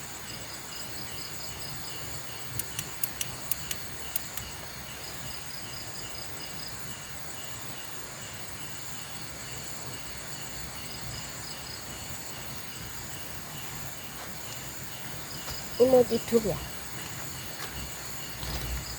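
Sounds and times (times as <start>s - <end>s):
insects chirring: 0.0s - 18.9s
pulsing insect chirp: 0.0s - 18.9s.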